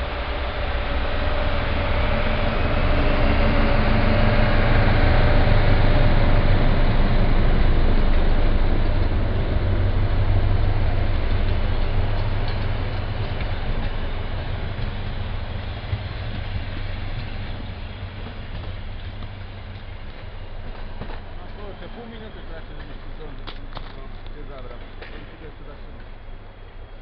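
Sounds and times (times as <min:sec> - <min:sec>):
diesel locomotive engine drone: 0:00.0 - 0:27.0
train coaches rumbling past: 0:00.0 - 0:27.0.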